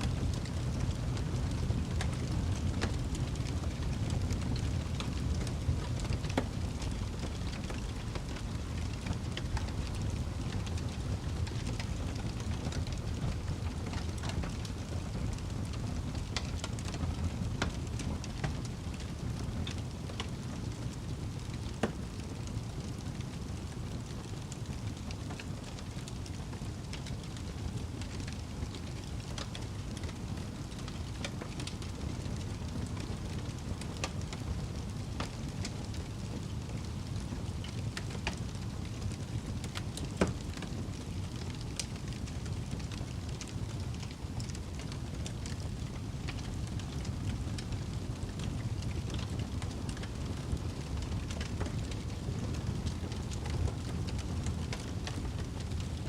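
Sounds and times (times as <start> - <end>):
fire rumble: 0.0 - 56.0
wood fire crackling: 0.0 - 56.0.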